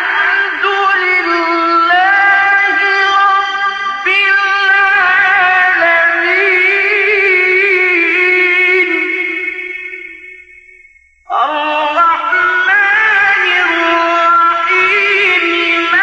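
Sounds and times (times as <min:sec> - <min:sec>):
man chanting melodically: 0:00.0 - 0:10.5, 0:11.3 - 0:16.0.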